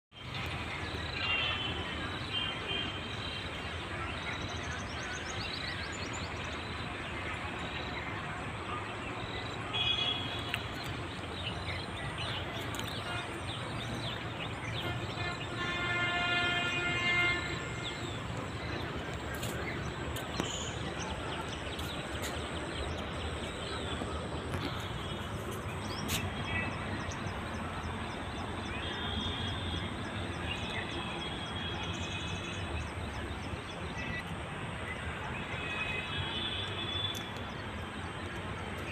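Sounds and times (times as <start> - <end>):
birds chirping: 0.2 - 38.9.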